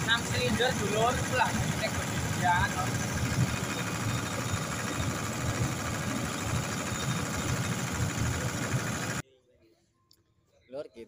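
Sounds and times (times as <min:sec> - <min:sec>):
diesel generator running: 0:00.0 - 0:09.2.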